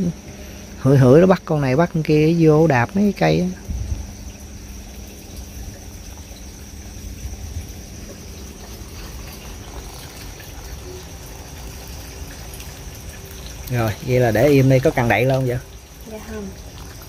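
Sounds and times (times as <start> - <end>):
water pouring and sloshing: 0.0 - 17.0.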